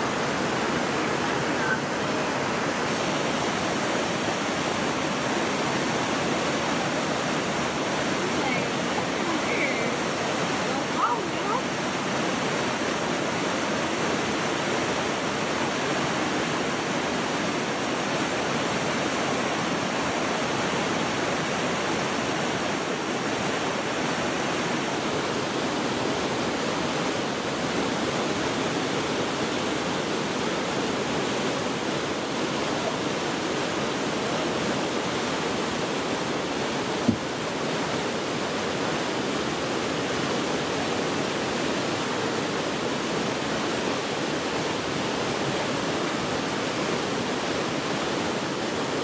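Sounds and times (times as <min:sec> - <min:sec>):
waterfall water rushing: 0:00.0 - 0:49.0.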